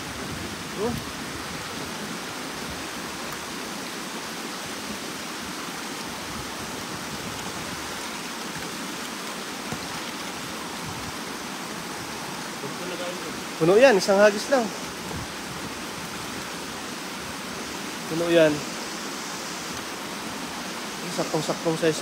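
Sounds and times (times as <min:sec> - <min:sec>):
river water flowing over stones: 0:00.0 - 0:22.0.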